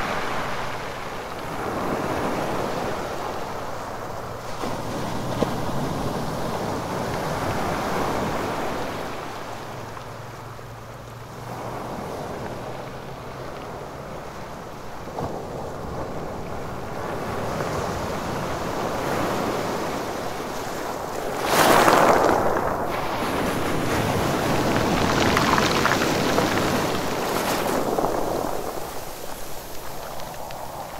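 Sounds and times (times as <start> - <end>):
waves breaking on rocky beach: 0.0 - 30.9.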